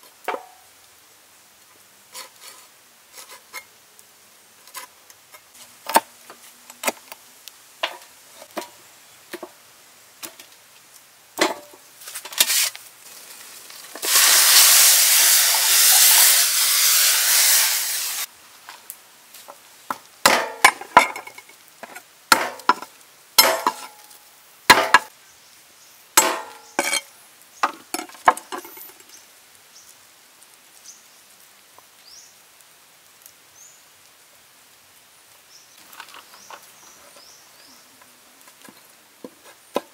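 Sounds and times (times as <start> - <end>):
loud steady hiss: 0.0 - 39.9.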